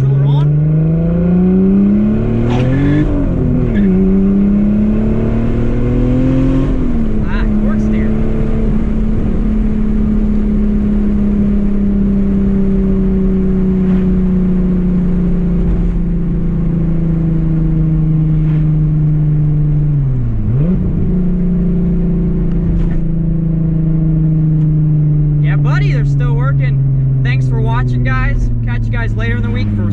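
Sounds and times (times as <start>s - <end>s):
car engine droning: 0.0s - 29.9s.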